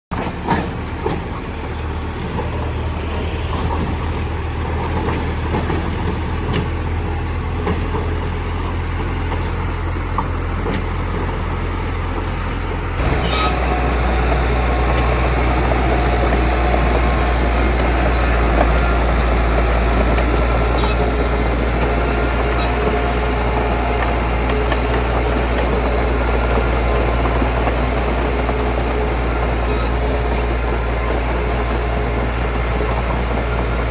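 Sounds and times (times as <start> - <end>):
heavy diesel engine running: 0.1 - 33.9.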